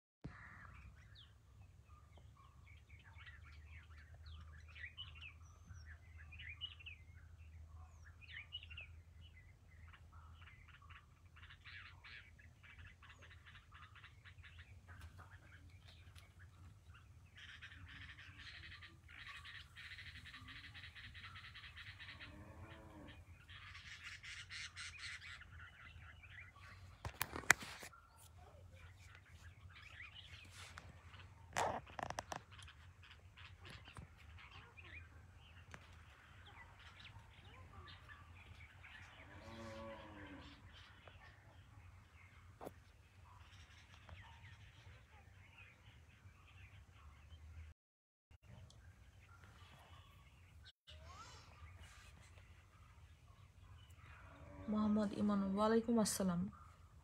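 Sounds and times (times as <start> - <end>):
birds chirping: 0.2 - 57.0.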